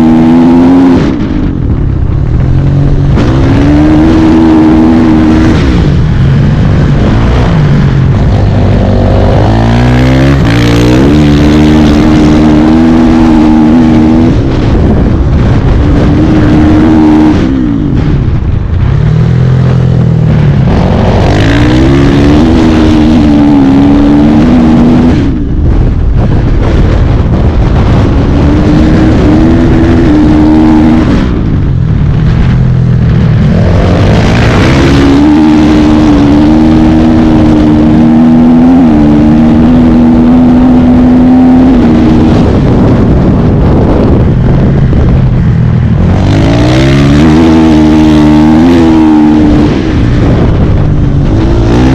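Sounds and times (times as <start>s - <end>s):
dense rushing noise: 0.0s - 51.9s
dirt bike engine revving: 0.0s - 51.9s.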